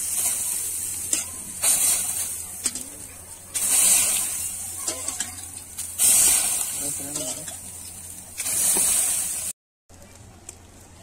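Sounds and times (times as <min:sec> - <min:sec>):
water hissing on hot pan: 0:00.0 - 0:09.6.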